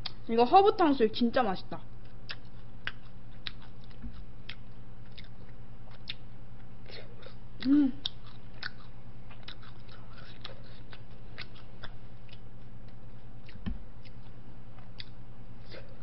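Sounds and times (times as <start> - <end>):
steady low hum: 0.0 - 16.0
wet chewing: 2.0 - 16.0.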